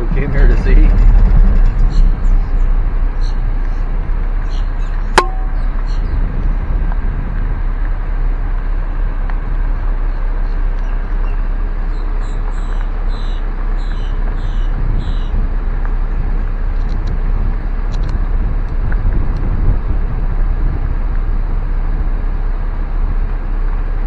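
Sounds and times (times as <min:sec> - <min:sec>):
car driving rumble from inside: 0:00.0 - 0:24.0.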